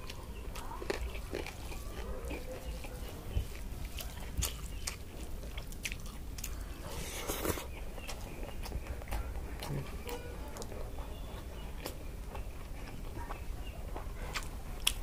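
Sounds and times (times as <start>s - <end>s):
chewing with wet mouth clicks: 0.0s - 15.0s.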